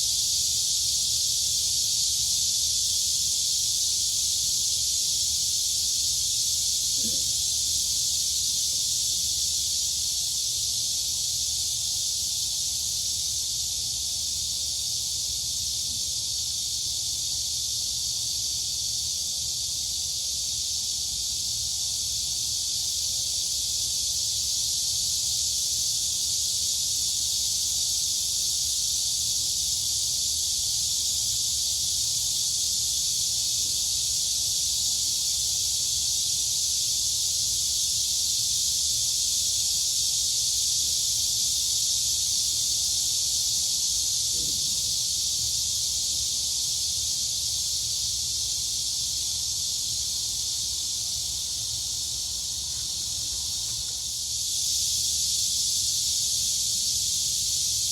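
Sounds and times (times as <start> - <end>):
crickets and cicadas buzzing: 0.0 - 57.9.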